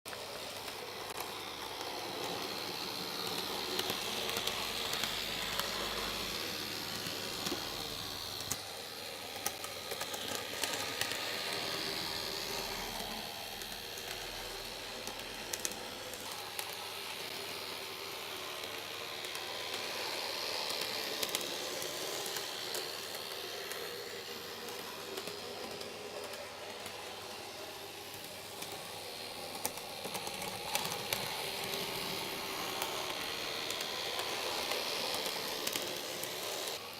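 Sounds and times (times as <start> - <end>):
model train whirring hiss: 0.1 - 36.9.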